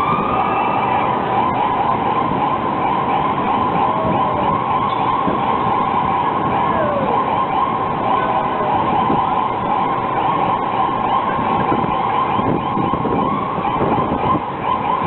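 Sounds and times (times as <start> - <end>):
ambulance siren: 0.0 - 15.0
road traffic: 0.0 - 15.0.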